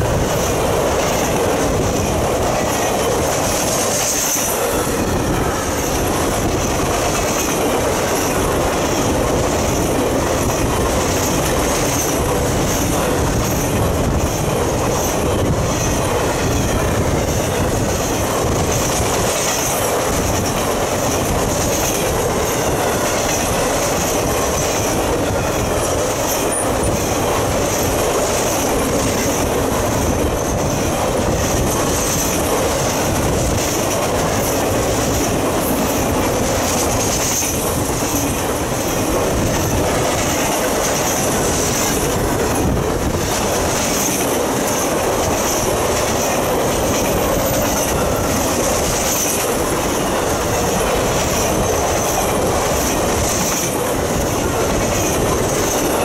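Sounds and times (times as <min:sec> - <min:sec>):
rhythmic clatter over rail joints: 0:00.0 - 0:56.0
train wheels rumbling on rail: 0:00.0 - 0:56.0.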